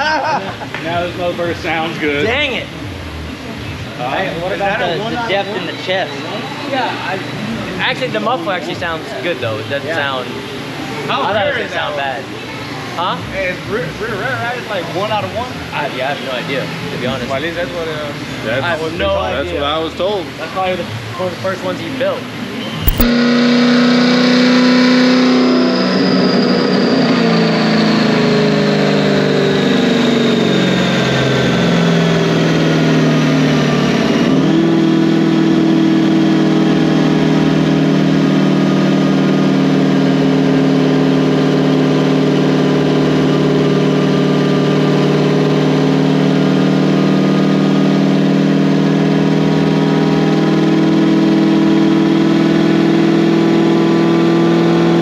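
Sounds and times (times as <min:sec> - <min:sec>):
car engine drone: 0:00.0 - 0:55.0
supercharger whine: 0:00.0 - 0:55.0.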